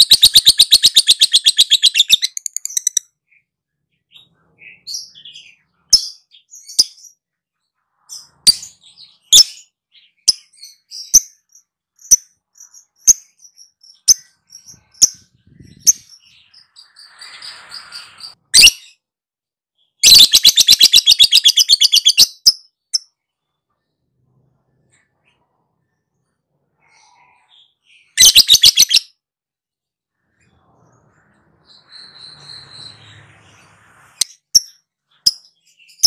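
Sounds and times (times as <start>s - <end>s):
lovebird chirping and trilling: 0.0s - 7.2s, 7.9s - 19.1s, 19.8s - 23.2s, 26.8s - 29.2s, 30.3s - 36.0s.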